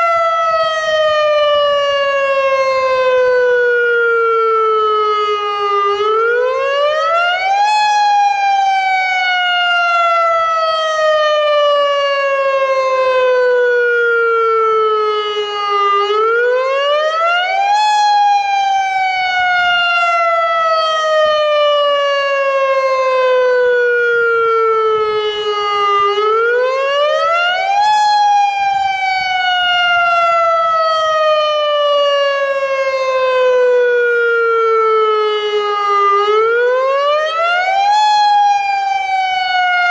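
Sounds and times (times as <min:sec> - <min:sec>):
wailing warning siren: 0:00.0 - 0:39.9.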